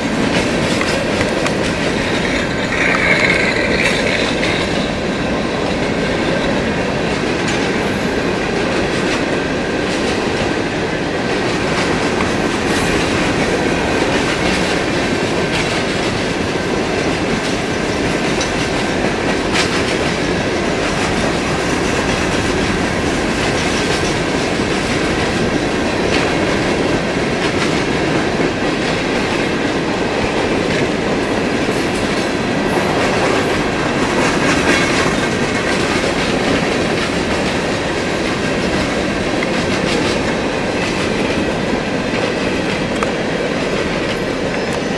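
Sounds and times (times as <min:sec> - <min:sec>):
freight train rumbling past: 0:00.0 - 0:44.9
wheels clattering on rails: 0:00.0 - 0:44.9.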